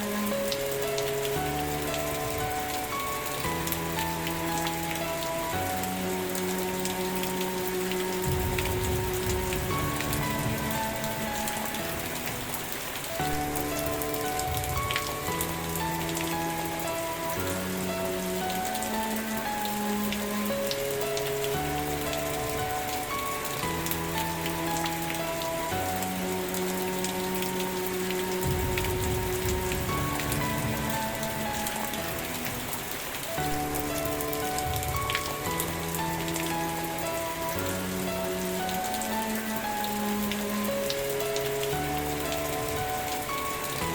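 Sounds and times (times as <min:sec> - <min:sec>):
rain falling on a surface: 0:00.0 - 0:43.9
soft slow music: 0:00.0 - 0:43.9.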